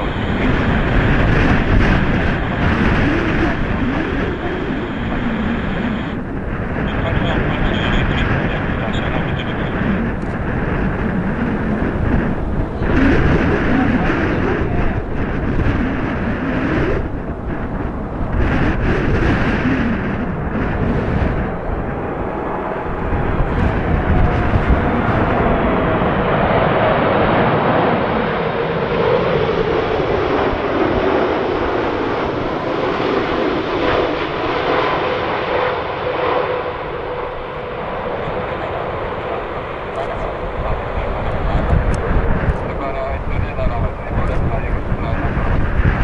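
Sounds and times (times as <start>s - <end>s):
jet engines roaring past: 0.0s - 46.0s
wind buffeting microphone: 0.0s - 46.0s.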